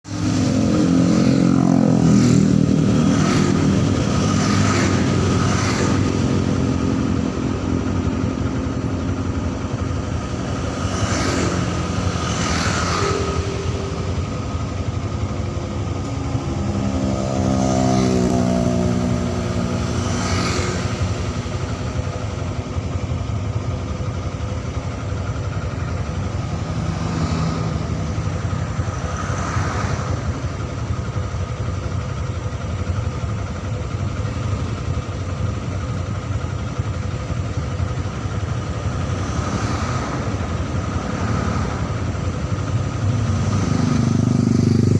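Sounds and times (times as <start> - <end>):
cars passing: 0.0 - 23.3, 24.3 - 31.5, 38.3 - 44.9
motorcycles passing: 0.0 - 44.9.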